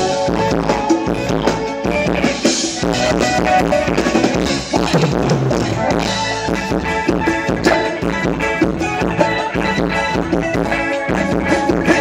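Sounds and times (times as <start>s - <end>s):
drum kit beat: 0.0s - 12.0s
live band dance music: 0.0s - 12.0s.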